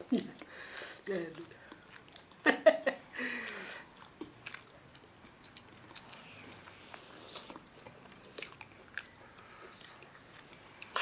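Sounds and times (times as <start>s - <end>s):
person chewing food: 0.0s - 2.6s, 3.4s - 11.0s.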